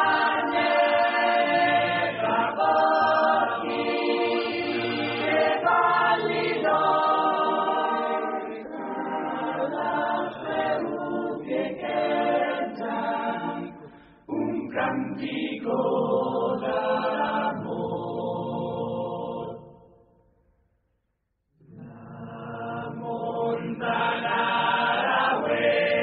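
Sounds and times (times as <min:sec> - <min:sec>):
choir singing a cappella: 0:00.0 - 0:20.1, 0:21.6 - 0:26.0.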